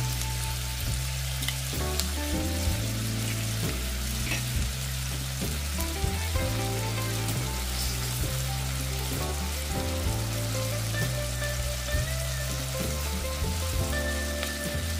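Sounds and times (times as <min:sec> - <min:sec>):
background music: 0:00.0 - 0:14.9
food sizzling in a frying pan: 0:00.0 - 0:14.9.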